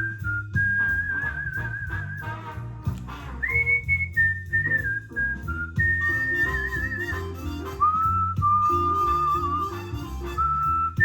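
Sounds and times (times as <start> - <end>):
person whistling a tune: 0.0 - 2.4, 3.4 - 11.0
backing music with bass and beat: 0.0 - 11.0.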